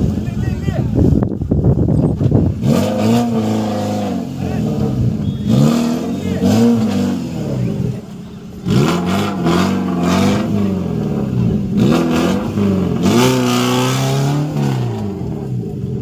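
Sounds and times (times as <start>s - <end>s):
engine revving: 2.2s - 16.0s.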